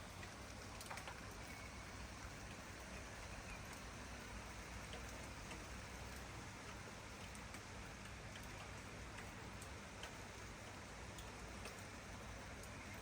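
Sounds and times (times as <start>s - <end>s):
light rain falling: 0.0s - 13.0s
raindrops ticking: 0.0s - 13.0s.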